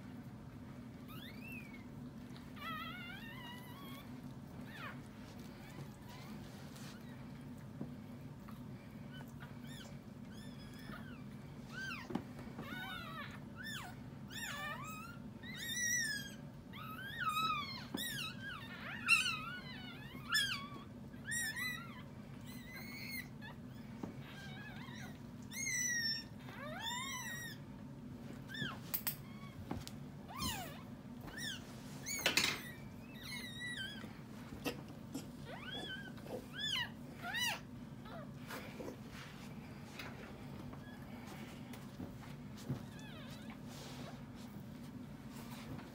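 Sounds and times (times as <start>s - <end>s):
puppies squeaking and mewling: 0.8s - 45.9s.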